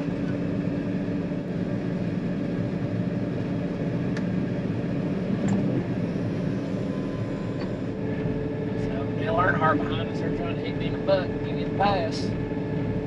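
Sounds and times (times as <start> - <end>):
diesel engine heard from cab: 0.0 - 13.0.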